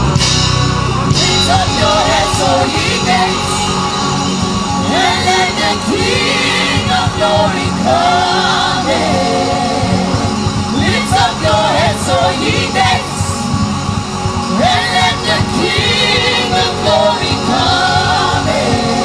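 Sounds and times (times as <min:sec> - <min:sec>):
gospel band music: 0:00.0 - 0:19.0
keyboard: 0:00.0 - 0:19.0
group of singers singing: 0:01.0 - 0:19.0.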